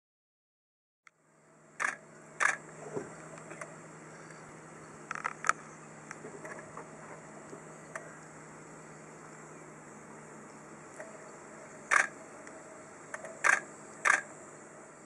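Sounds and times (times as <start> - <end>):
steady low hum: 1.1 - 15.0.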